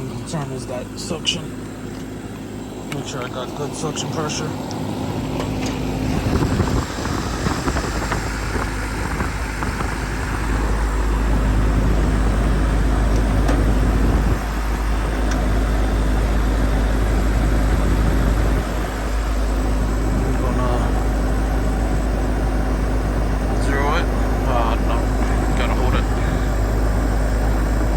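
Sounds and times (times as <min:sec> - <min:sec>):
air conditioner hum and fan: 0:00.0 - 0:27.9.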